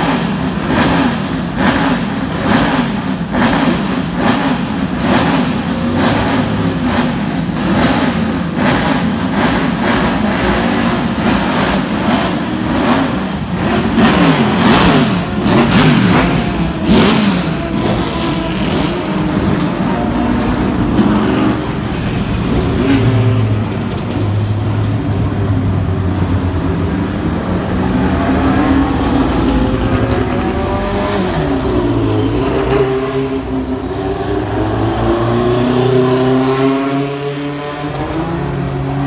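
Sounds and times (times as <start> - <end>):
racing car engines revving past: 0.0 - 39.0.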